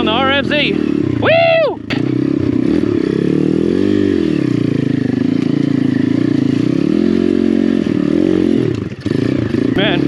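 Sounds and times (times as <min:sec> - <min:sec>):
motorbike engine revving uphill: 0:00.0 - 0:10.0.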